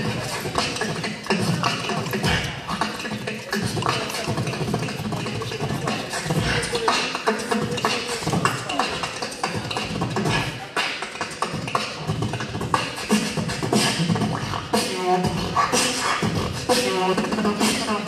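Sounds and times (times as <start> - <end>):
person beatboxing into microphone: 0.0 - 18.0
wavering pitched vocal sounds: 0.0 - 18.0.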